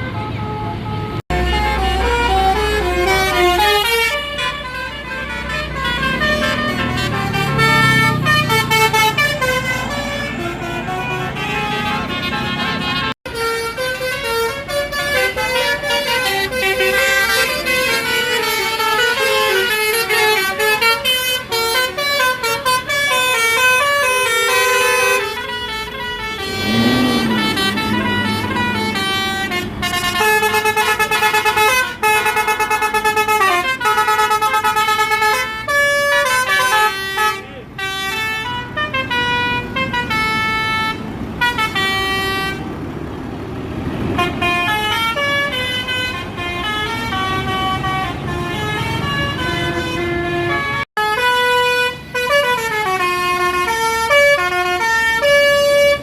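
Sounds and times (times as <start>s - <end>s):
multi-tone air horn melody: 0.0s - 42.8s, 44.1s - 56.0s.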